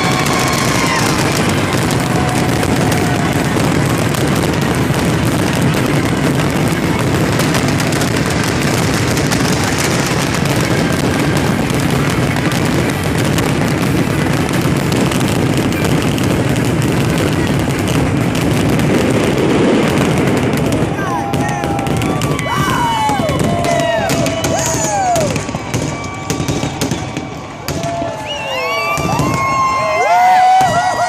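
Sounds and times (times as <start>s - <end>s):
fireworks barrage bangs and crackles: 0.0s - 31.0s.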